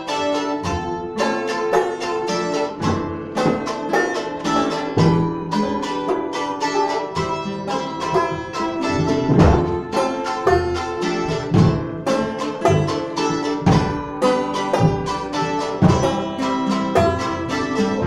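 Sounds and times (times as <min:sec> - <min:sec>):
acoustic guitar picking: 0:00.0 - 0:18.0
banjo picking: 0:00.0 - 0:18.0.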